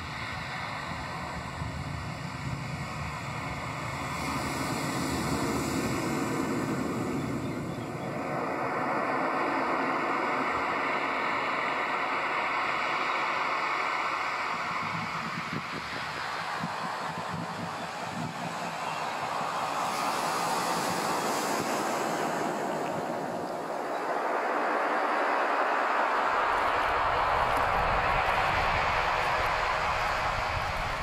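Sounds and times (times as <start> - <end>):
steady rushing ambient noise: 0.0 - 31.0.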